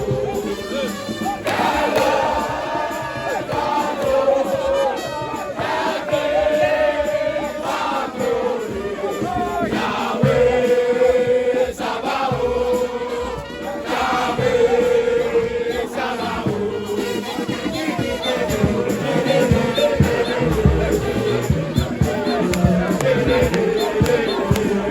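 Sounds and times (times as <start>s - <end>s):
crowd singing chant-like song: 0.0s - 24.9s.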